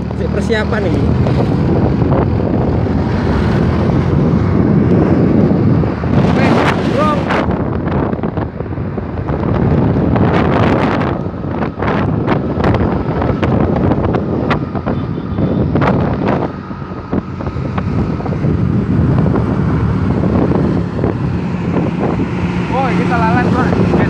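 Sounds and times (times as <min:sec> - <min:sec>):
engine hum: 0:00.0 - 0:24.0
passing road traffic: 0:00.0 - 0:24.0
wind buffeting microphone: 0:00.0 - 0:24.0.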